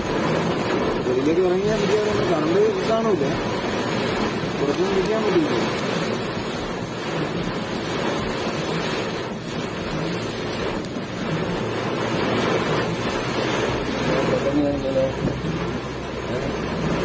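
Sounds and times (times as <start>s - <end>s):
heavy rain: 0.0s - 17.0s
wind buffeting microphone: 0.0s - 17.0s.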